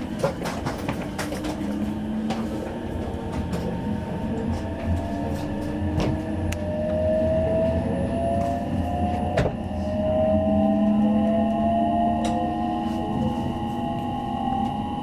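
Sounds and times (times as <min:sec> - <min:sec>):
train rumble: 0:00.0 - 0:15.0
faint rising whine: 0:01.2 - 0:15.0.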